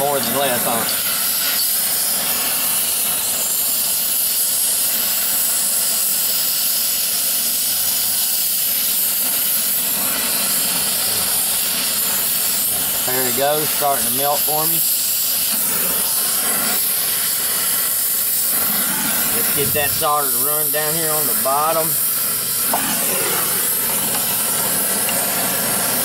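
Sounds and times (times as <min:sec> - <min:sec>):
torch flame hissing: 0:00.0 - 0:26.0.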